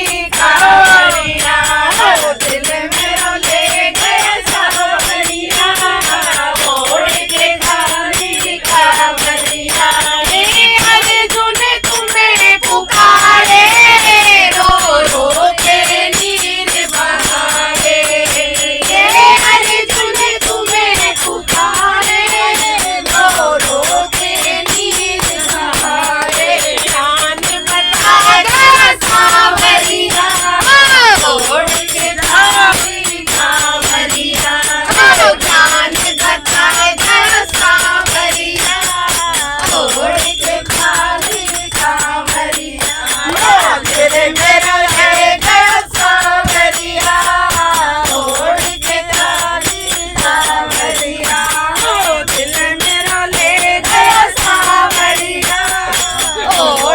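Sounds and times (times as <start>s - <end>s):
rattling hand percussion: 0.0s - 56.9s
women singing together: 0.0s - 56.9s.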